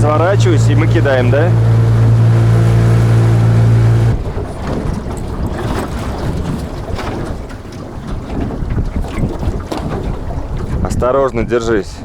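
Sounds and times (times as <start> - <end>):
waves slapping boat hull: 0.0 - 12.0
wind buffeting microphone: 0.0 - 12.0.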